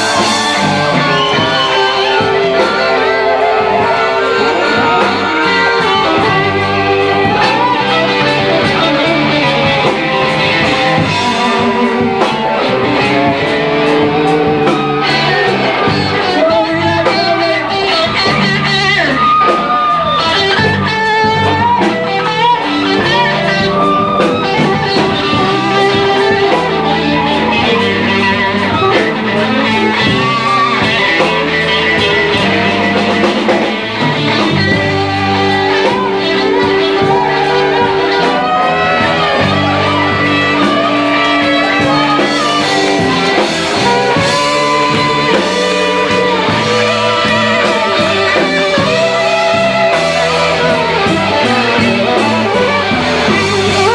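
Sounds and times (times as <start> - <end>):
drum beat: 0.0 - 53.9
guitar: 0.0 - 53.9.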